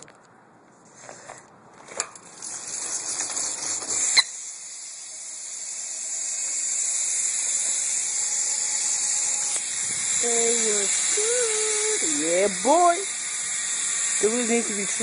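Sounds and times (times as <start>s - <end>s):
bicycle hub ratchet buzzing: 2.2s - 15.0s.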